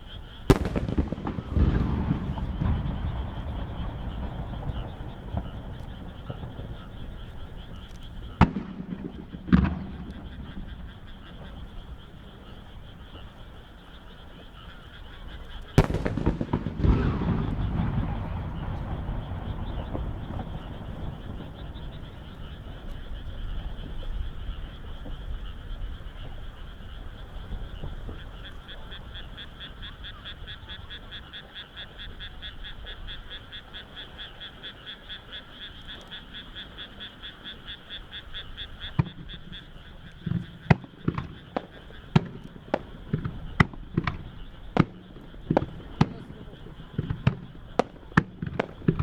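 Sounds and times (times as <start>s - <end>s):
frogs calling in chorus: 0.0s - 49.0s
firework bangs: 0.1s - 30.5s, 35.8s - 49.0s.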